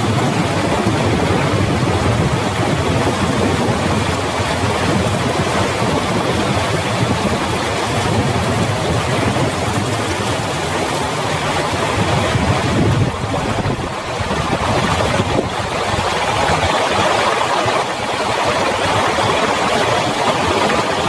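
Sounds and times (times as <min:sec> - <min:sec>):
heavy rain falling: 0:00.0 - 0:21.0
water running over road: 0:00.0 - 0:21.0.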